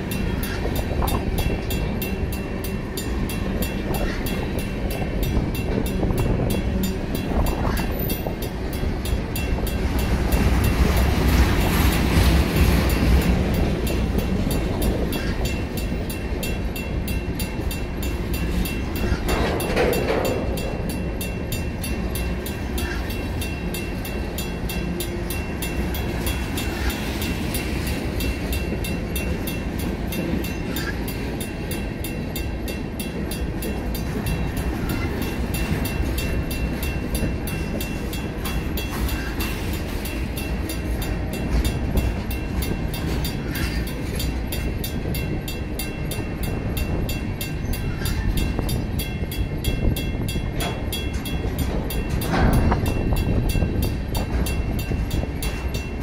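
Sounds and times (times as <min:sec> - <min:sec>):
crossing bell ringing: 0:00.0 - 0:56.0
train wheels rumbling on rails: 0:00.0 - 0:56.0.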